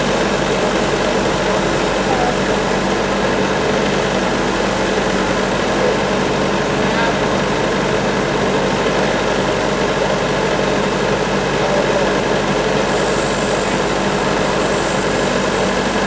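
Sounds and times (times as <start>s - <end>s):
band sawmill cutting log: 0.0s - 16.0s.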